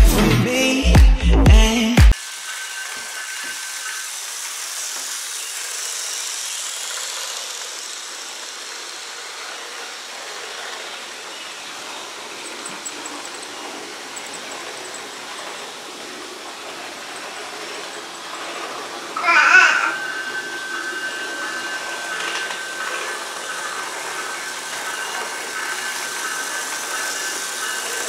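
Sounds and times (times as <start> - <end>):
model train whirring: 2.1 - 28.0.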